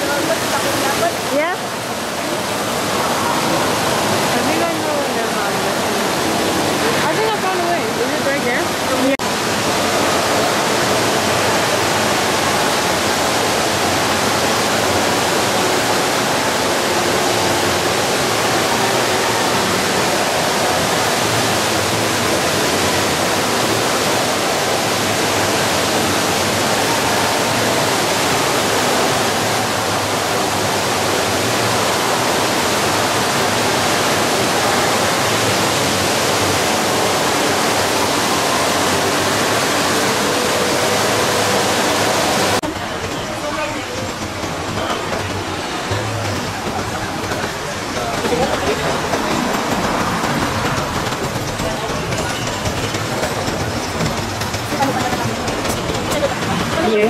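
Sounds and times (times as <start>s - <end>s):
fountain water splashing into pool: 0.0s - 57.0s.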